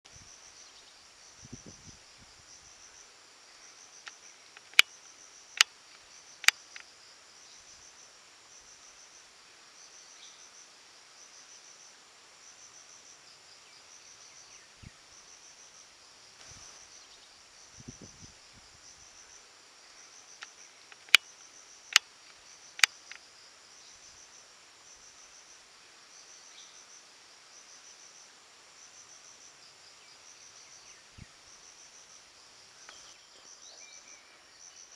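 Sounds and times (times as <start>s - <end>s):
insects chirping: 0.1s - 34.9s.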